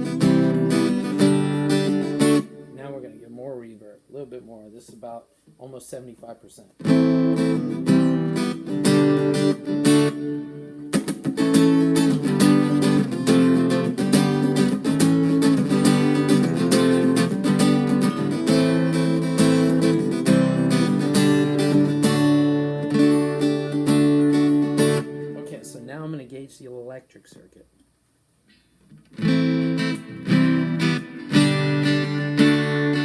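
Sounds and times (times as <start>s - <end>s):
guitar strummed through amplifier: 0.0s - 3.2s, 6.8s - 26.0s, 28.5s - 33.0s.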